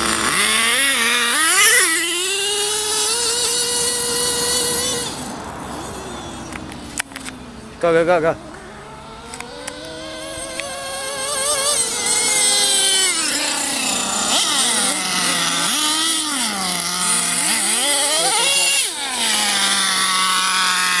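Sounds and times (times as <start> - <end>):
small nitro engine revving: 0.0 - 21.0.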